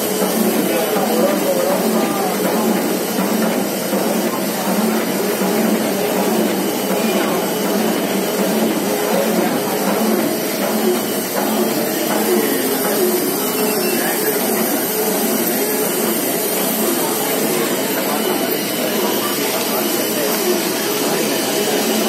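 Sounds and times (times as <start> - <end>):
bag-making machine running: 0.0 - 22.0.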